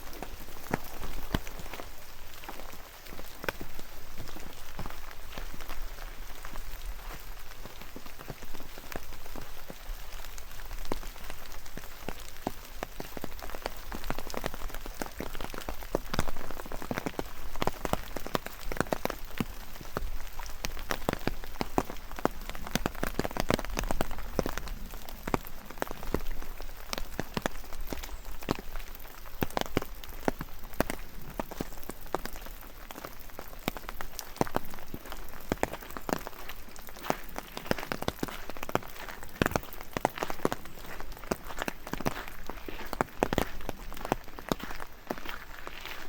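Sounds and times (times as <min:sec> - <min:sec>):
rain hiss: 0:00.0 - 0:46.0
raindrop ticks: 0:00.0 - 0:46.0.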